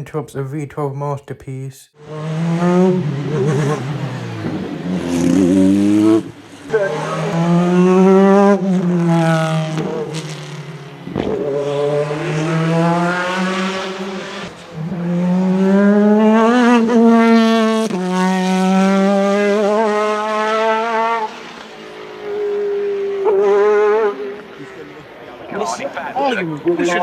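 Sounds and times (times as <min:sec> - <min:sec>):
race car engine revving: 0:02.0 - 0:27.0.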